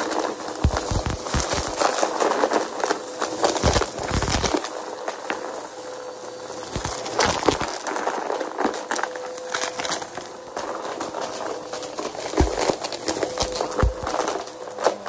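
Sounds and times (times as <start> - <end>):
debris crackling being sucked up: 0.0 - 15.0
vacuum cleaner motor: 0.0 - 15.0.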